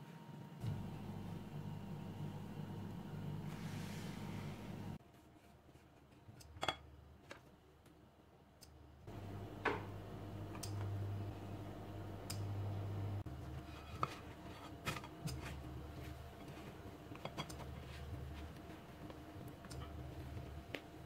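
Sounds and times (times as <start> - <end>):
low steady hum: 0.0 - 5.0, 7.8 - 21.0.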